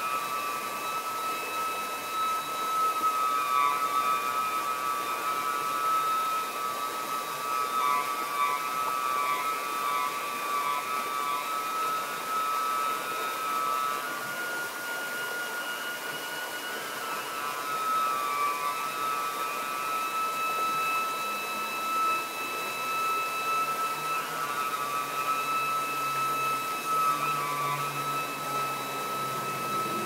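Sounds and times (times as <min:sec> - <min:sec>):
saxophone high drone: 0:00.0 - 0:30.0.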